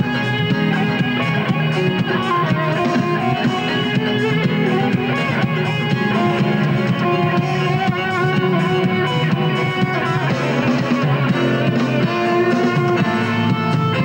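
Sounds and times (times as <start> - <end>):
electric guitar sustained bent notes: 0.0 - 14.0
rock band playing live: 0.0 - 14.0.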